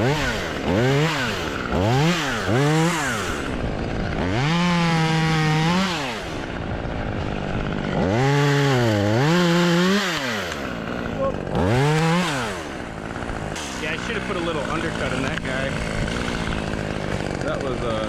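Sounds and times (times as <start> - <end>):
chainsaw revving and cutting: 0.0 - 18.0.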